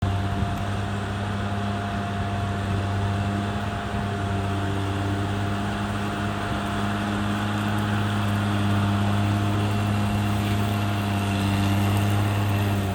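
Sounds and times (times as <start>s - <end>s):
bulldozer diesel engine running: 0.0s - 12.9s.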